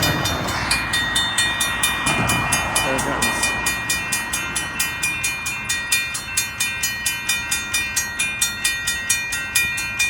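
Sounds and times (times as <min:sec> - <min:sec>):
railroad crossing bell ringing: 0:00.0 - 0:10.0.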